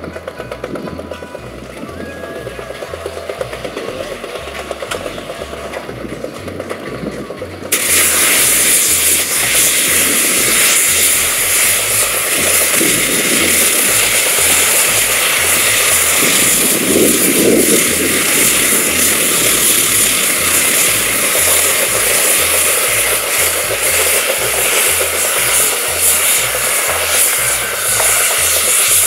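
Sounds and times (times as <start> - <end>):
sawmill hissing whirr: 0.0 - 29.0
steam engine low rumble: 0.0 - 29.0.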